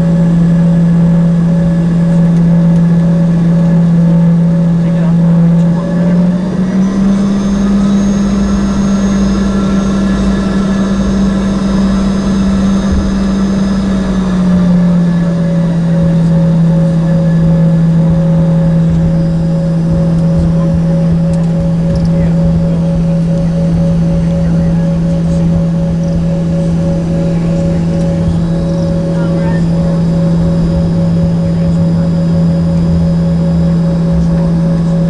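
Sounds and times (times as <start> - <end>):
high engine whine: 0.0 - 35.0
jet engine drone in cabin: 0.0 - 35.0.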